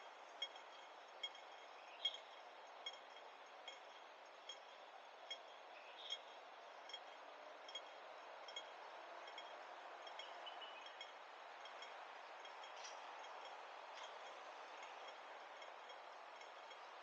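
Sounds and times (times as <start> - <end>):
crossing signal ticking: 0.0 - 17.0
low street hum: 0.0 - 17.0.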